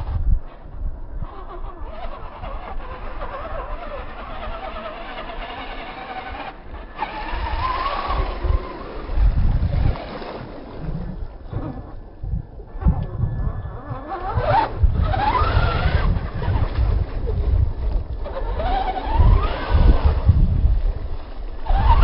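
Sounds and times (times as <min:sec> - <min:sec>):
toy truck motor whining: 0:00.1 - 0:10.7, 0:12.9 - 0:17.3, 0:18.2 - 0:20.4, 0:21.6 - 0:22.0
tyres churning mud: 0:01.2 - 0:12.2, 0:13.8 - 0:22.0.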